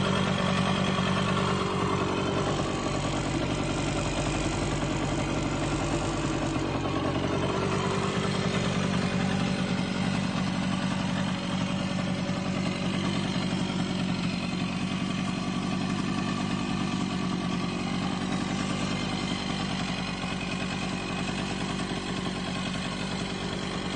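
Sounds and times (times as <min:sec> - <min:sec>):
two-stroke engine idling: 0:00.0 - 0:23.9.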